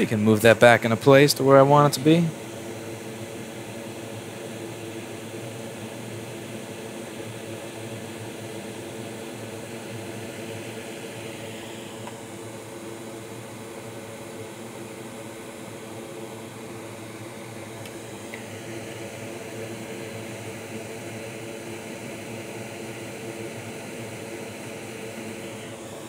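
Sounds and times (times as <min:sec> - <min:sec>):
fan whirring hum: 0:00.0 - 0:26.0.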